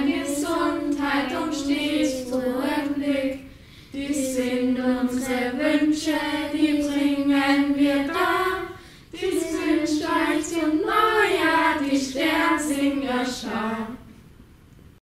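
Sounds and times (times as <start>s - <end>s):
children singing unaccompanied: 0.0s - 14.0s.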